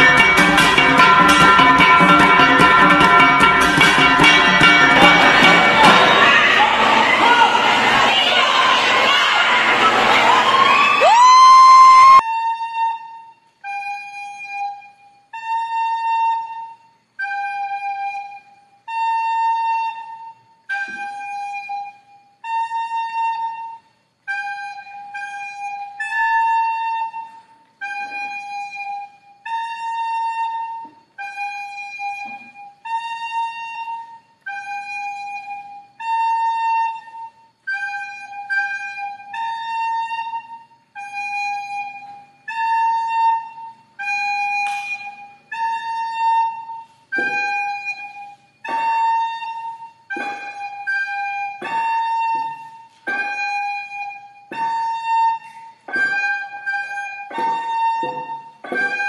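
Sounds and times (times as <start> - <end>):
wind instrument playing notes: 0.0 - 59.0.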